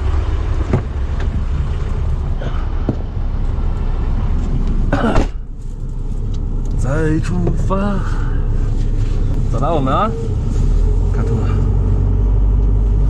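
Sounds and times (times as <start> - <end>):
motorhome engine rumbling: 0.0 - 13.0.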